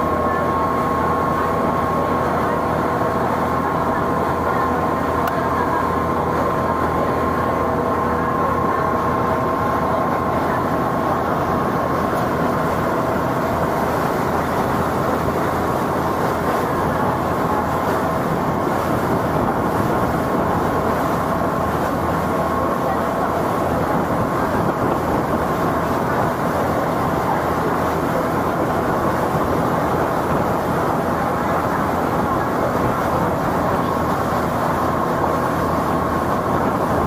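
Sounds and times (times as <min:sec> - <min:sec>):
boat engine drone: 0:00.0 - 0:37.0
thin steady whine: 0:00.0 - 0:37.0.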